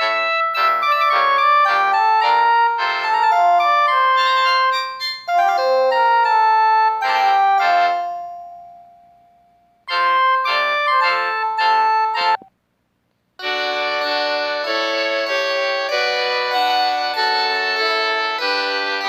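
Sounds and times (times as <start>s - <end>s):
synthesized ringtone melodies: 0.0s - 9.2s, 9.9s - 12.5s, 13.4s - 19.0s.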